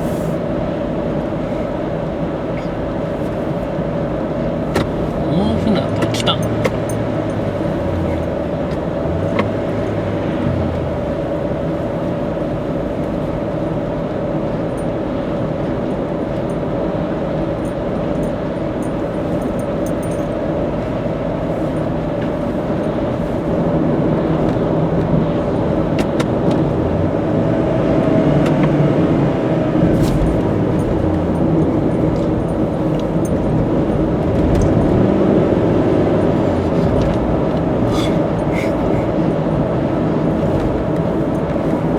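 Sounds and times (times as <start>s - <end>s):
car interior road noise: 0.0s - 41.9s.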